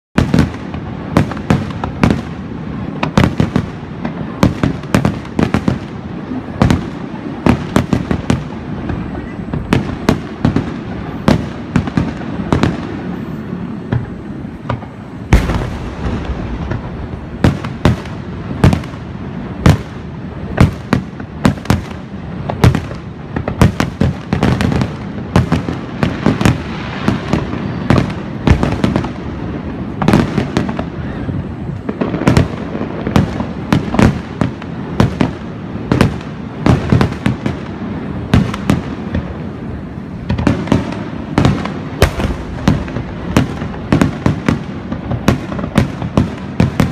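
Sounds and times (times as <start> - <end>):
fireworks bursting: 0.2 - 46.9
fireworks crackle: 0.2 - 46.9.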